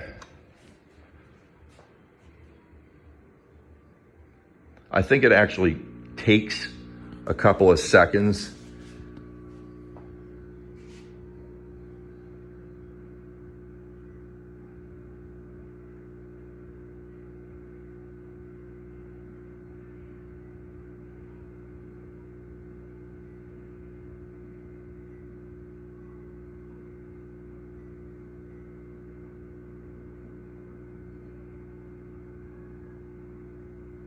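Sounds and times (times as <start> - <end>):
speakers mains hum: 0.0 - 34.0.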